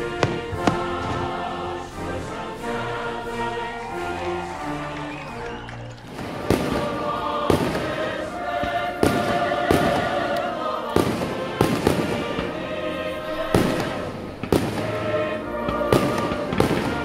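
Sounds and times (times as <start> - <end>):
fireworks bursting: 0.0 - 2.5, 3.3 - 12.6, 13.2 - 17.0
music: 0.0 - 17.0.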